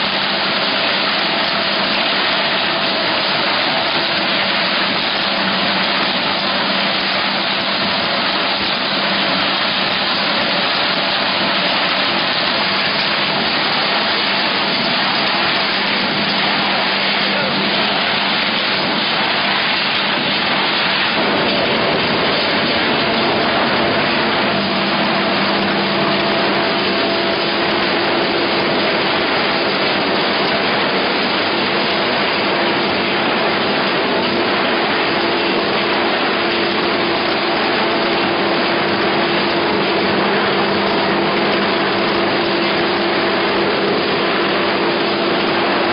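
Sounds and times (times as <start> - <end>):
die cutting machinery running: 0.0 - 45.9.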